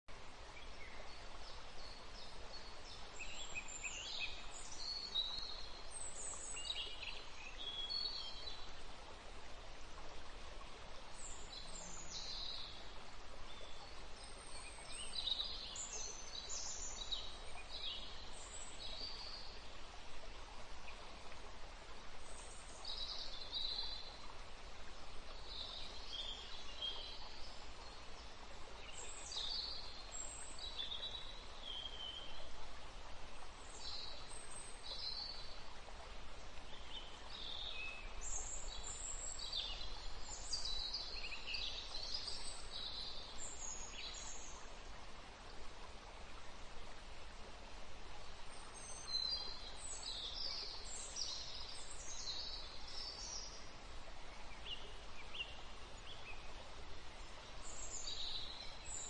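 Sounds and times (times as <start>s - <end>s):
steady background hiss: 0.1s - 59.0s.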